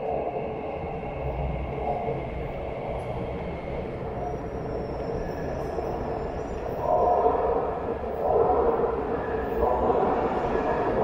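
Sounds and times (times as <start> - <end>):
metro train rumble: 0.0 - 11.0.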